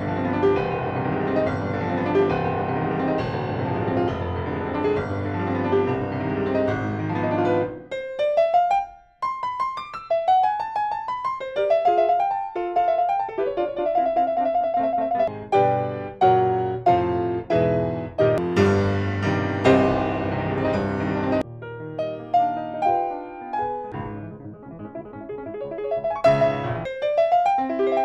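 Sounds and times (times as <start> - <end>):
grand piano playing: 0.0 - 28.0.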